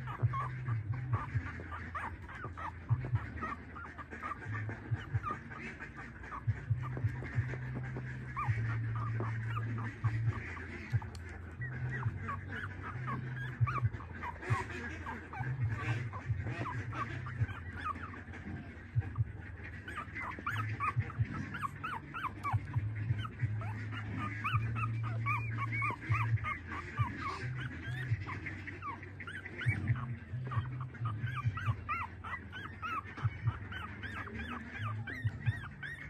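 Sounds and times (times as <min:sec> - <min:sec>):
puppies squeaking and whimpering: 0:00.0 - 0:36.0.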